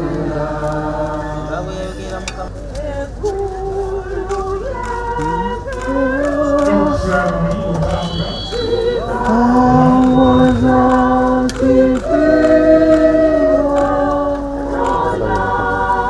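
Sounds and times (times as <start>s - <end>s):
group singing slowly: 0.0s - 16.0s.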